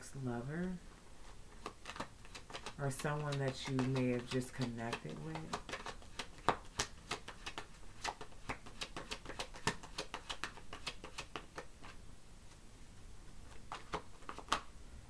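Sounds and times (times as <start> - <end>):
cards being shuffled: 1.2 - 12.6, 13.4 - 14.7.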